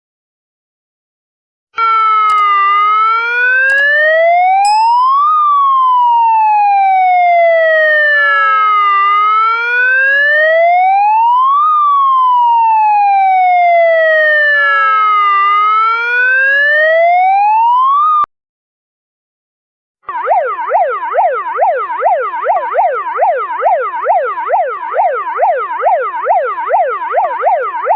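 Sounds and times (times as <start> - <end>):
emergency vehicle siren wailing: 1.8 - 4.6, 5.2 - 18.3, 20.1 - 27.9.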